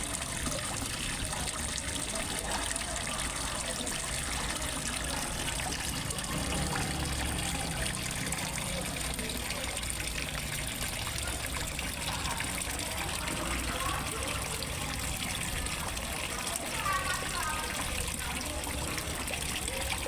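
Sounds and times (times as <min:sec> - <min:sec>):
water trickling into a pond: 0:00.0 - 0:20.0.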